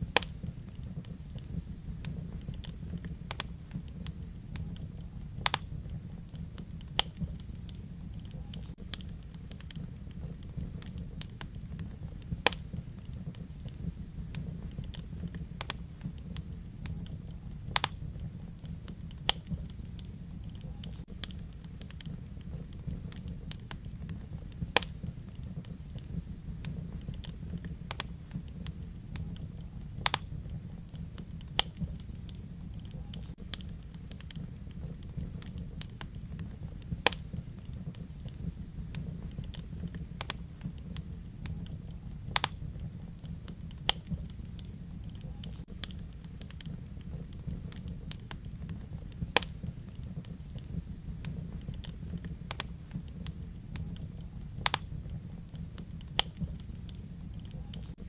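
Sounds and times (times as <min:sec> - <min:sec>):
low rumble of burning fire: 0:00.0 - 0:58.0
wood fire crackling and popping: 0:00.0 - 0:58.0.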